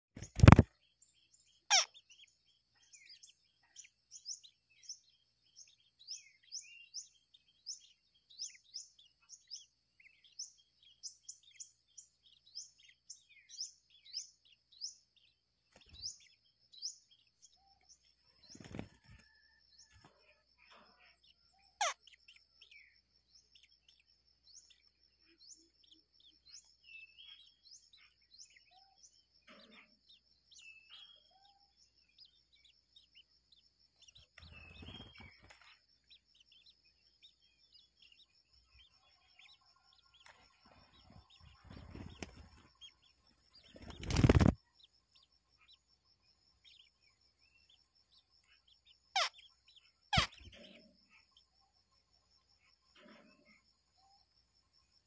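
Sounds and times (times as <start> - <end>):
small bird chirping: 0.0 - 55.0.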